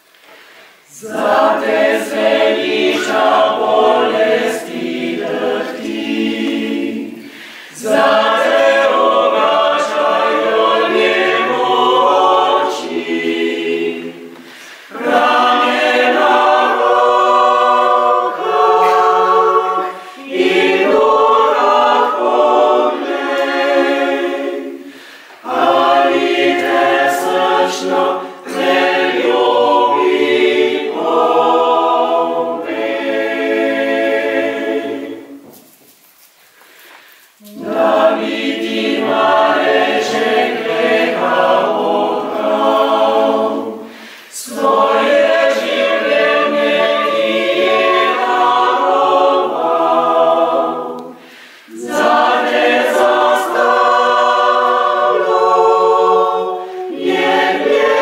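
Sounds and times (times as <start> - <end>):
mixed choir singing a cappella: 0.0 - 35.7, 36.6 - 58.0.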